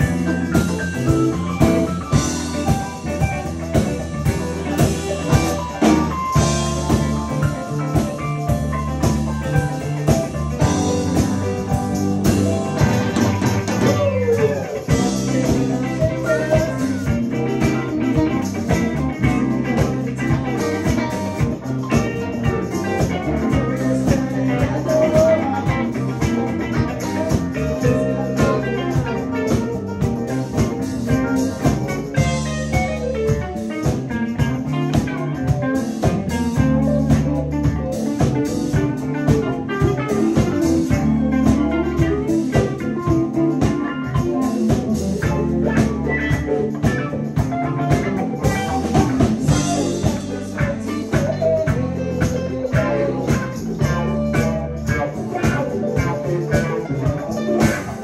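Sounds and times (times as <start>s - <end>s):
bass: 0.0s - 58.0s
drum kit: 0.0s - 58.0s
electric guitar lead: 0.0s - 58.0s
keyboards: 0.0s - 58.0s.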